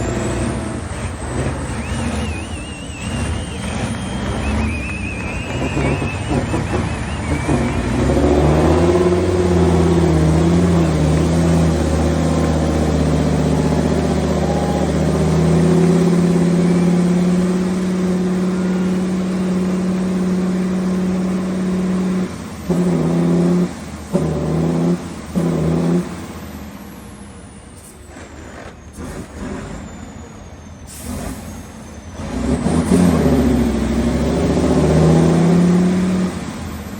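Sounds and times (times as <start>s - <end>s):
truck engines revving: 0.0s - 36.9s.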